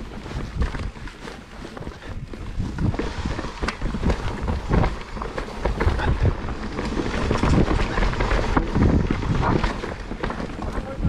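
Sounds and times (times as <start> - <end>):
bike rattling over roots: 0.0 - 11.0
low tyre rumble: 0.0 - 11.0
wind buffeting microphone: 0.0 - 11.0.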